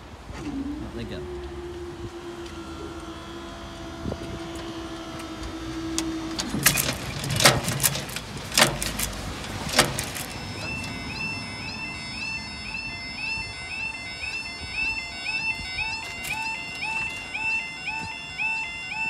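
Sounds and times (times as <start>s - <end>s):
barrier motor hum: 0.0s - 19.0s.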